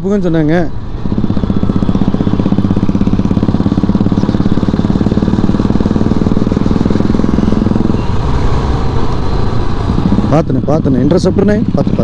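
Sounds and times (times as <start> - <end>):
motorcycle engine running: 0.1 - 12.0.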